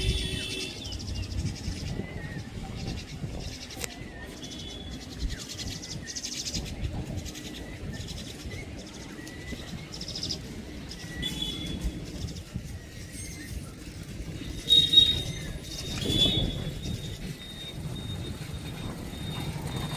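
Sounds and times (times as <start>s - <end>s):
birds trilling and chirping: 0.0s - 19.9s.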